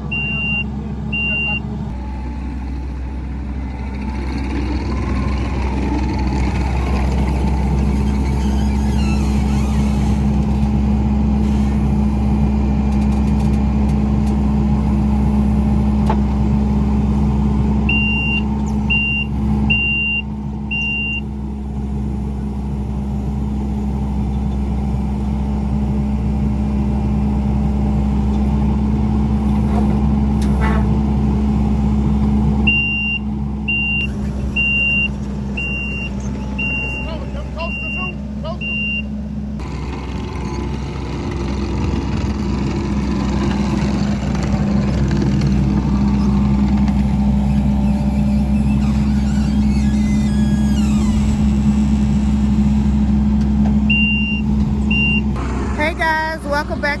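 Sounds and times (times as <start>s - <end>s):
truck engine and road hum: 0.0s - 57.0s.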